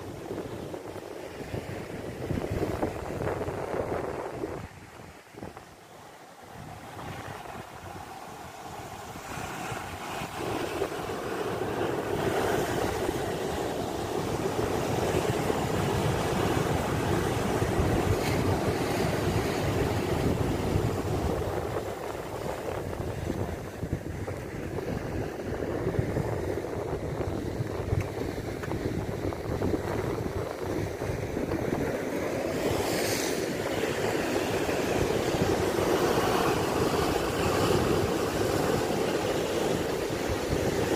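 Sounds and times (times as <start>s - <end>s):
wind buffeting microphone: 0.0s - 5.7s, 6.5s - 40.9s
sea waves breaking on rocks: 6.5s - 40.9s.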